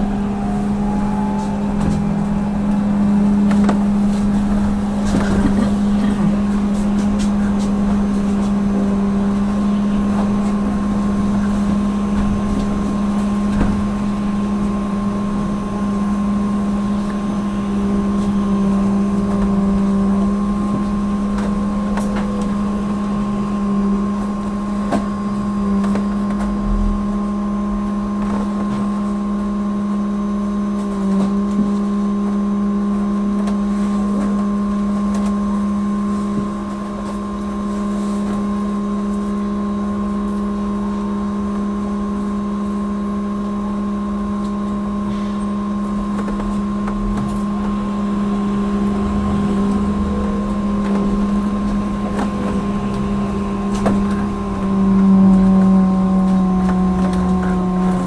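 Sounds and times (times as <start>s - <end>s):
road and tyre rumble: 0.0s - 58.0s
steady electrical hum: 0.0s - 58.0s.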